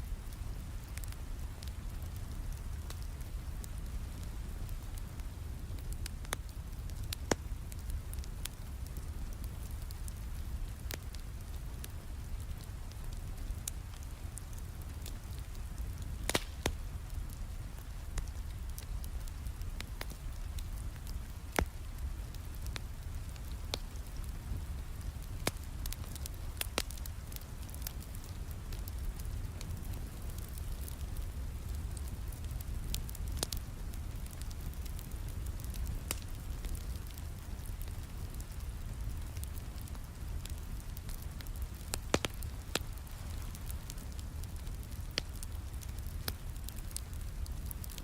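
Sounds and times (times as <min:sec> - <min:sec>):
wood fire crackling: 0:00.0 - 0:48.0
sharp pops from fire: 0:00.3 - 0:48.0.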